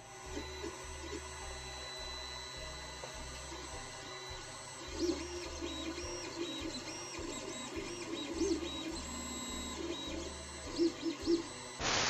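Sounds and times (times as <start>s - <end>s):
stepper motors whirring: 0.0s - 12.0s.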